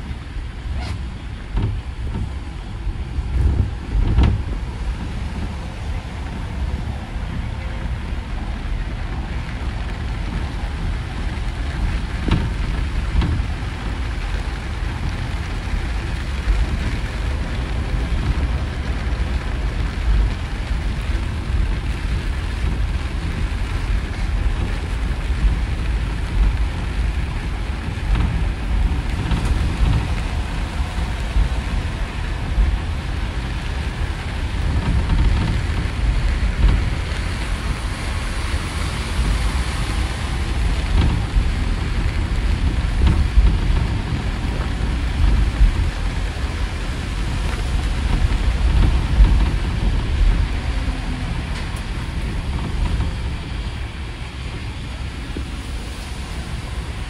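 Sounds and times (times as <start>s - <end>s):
bus engine rumble: 0.0s - 57.0s
tyres hissing on wet road: 0.0s - 57.0s.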